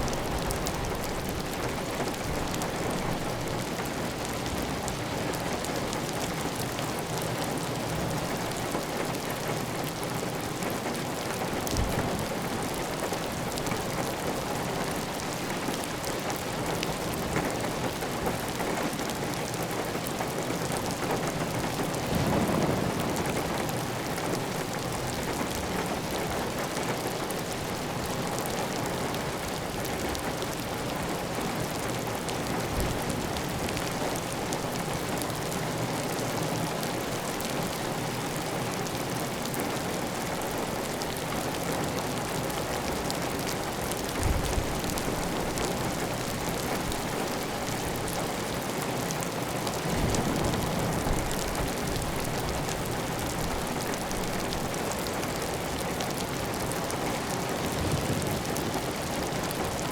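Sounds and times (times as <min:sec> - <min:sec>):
heavy rain on a tile roof: 0:00.0 - 0:59.9.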